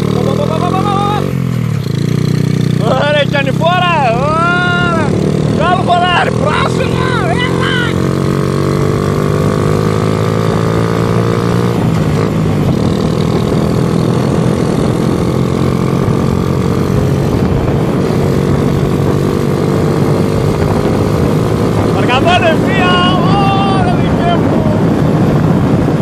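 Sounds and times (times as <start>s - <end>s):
motorcycle engine accelerating: 0.0s - 26.0s
wind noise: 4.0s - 26.0s.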